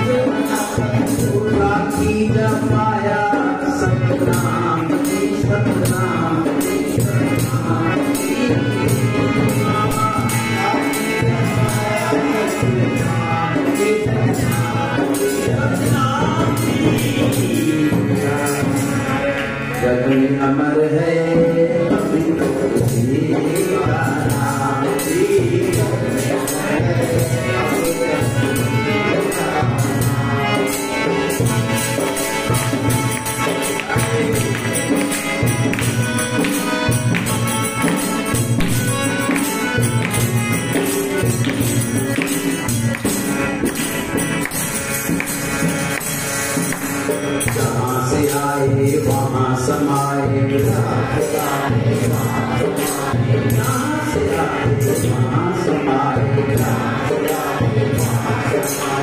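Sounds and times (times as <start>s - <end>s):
hand percussion with jingles: 0.0s - 19.2s, 21.8s - 55.3s
harmonium melody: 0.0s - 59.0s.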